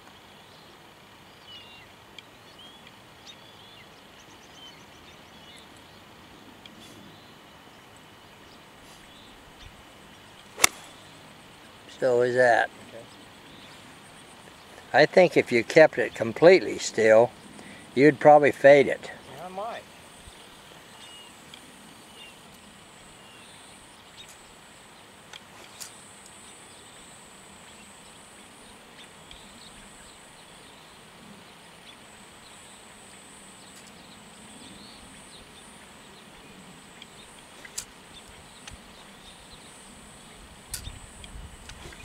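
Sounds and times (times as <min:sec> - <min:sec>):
faint high-pitched hum: 0:00.0 - 0:42.0
steady background hiss: 0:00.0 - 0:42.0.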